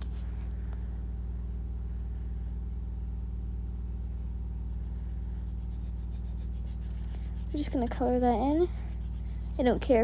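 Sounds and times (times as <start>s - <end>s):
steady low hum: 0.0s - 10.0s
high-pitched chirping: 1.2s - 10.0s.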